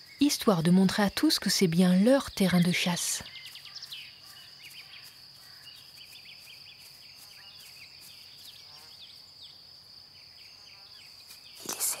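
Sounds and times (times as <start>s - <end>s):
birds chirping: 0.0s - 12.0s
high-pitched insect trill: 0.0s - 12.0s.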